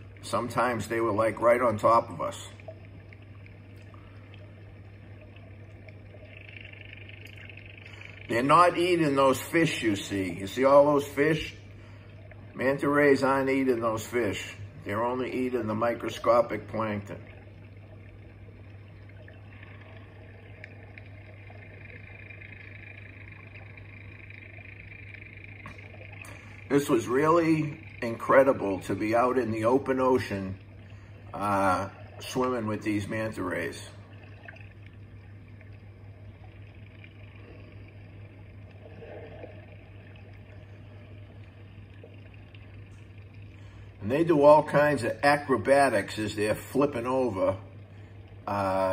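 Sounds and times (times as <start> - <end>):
faint high chirring: 0.0 - 48.9
low hum: 0.0 - 48.9.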